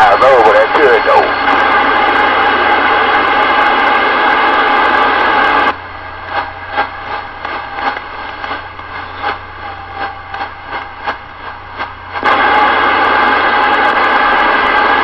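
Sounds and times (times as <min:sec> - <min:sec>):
radio static hiss and crackles: 0:00.0 - 0:15.0.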